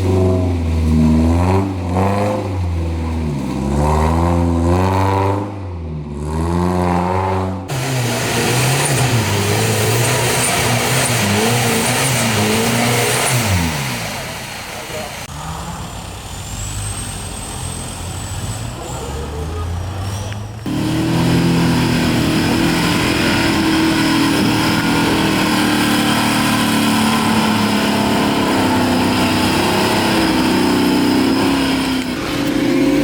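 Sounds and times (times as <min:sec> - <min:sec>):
off-road vehicle engine under load: 0:00.0 - 0:33.0.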